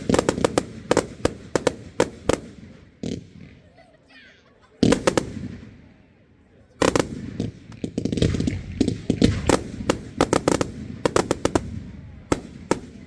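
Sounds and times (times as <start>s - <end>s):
fireworks bangs: 0.0s - 3.8s, 4.8s - 6.2s, 6.8s - 13.0s
fireworks cracks: 0.0s - 3.9s, 4.8s - 5.9s, 6.8s - 13.0s.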